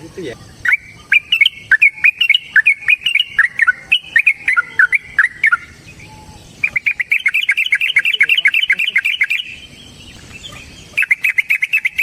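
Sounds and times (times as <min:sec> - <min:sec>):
bird singing rapid whistled notes: 0:00.2 - 0:12.0.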